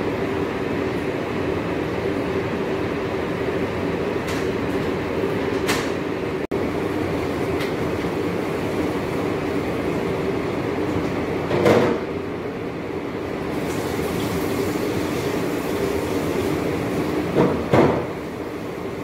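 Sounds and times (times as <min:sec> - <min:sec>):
mechanical noise with low hum: 0:00.0 - 0:19.0.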